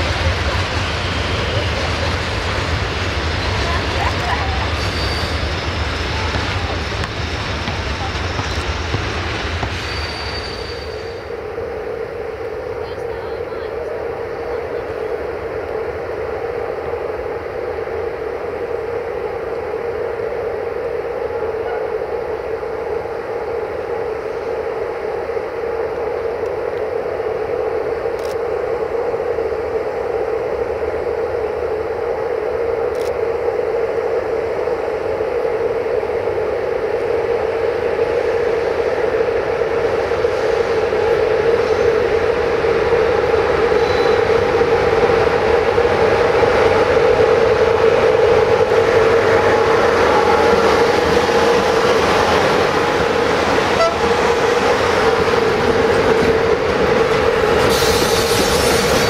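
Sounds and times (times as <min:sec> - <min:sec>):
electric locomotive whirring drone: 0:00.0 - 0:59.0.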